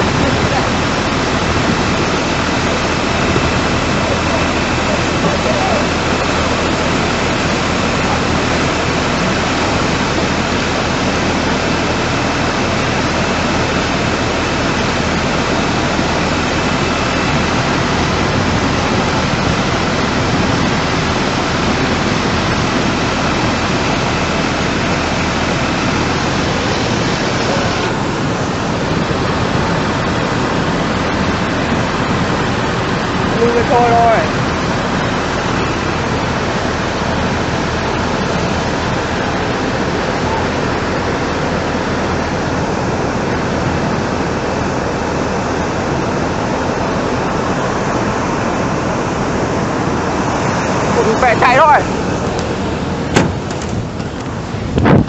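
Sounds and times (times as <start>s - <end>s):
floodwater rushing: 0.0s - 55.0s.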